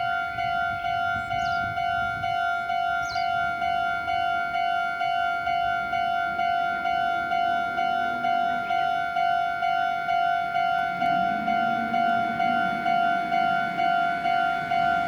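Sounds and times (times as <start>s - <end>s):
railroad crossing alarm ringing: 0.0s - 15.0s.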